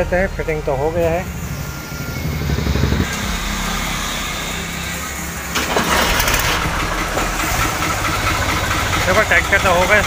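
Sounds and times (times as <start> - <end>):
diesel tractor engine starting: 0.1 - 10.0.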